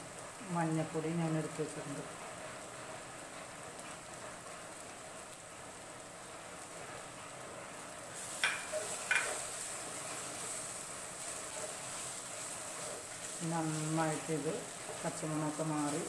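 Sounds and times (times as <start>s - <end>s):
spice paste sizzling: 0.0s - 16.0s.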